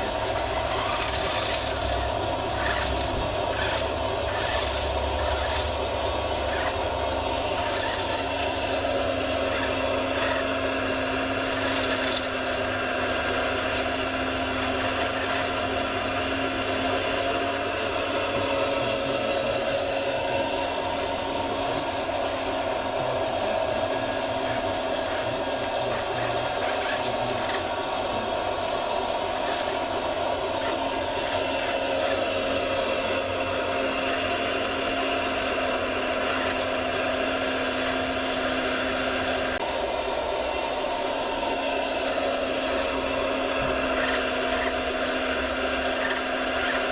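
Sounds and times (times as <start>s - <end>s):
model vehicle motor hum and whine: 0.0s - 46.9s.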